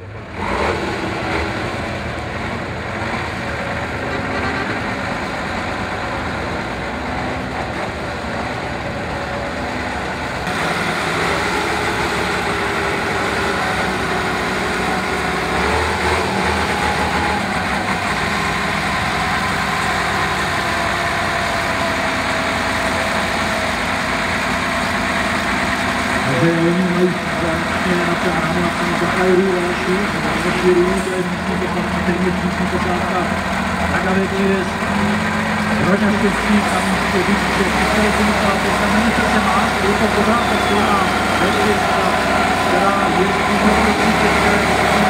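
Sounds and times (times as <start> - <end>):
truck diesel engine under load: 0.0 - 45.0.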